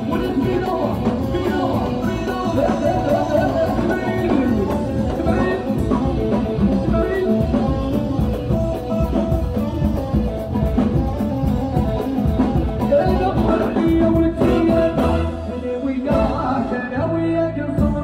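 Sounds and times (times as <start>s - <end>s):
drum kit beat: 0.0s - 17.1s.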